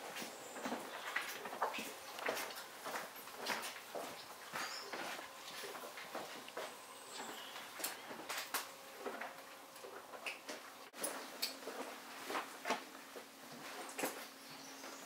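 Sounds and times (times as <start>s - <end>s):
faint steady hum: 0.0s - 15.0s
horse tack clicking and rustling: 0.0s - 15.0s.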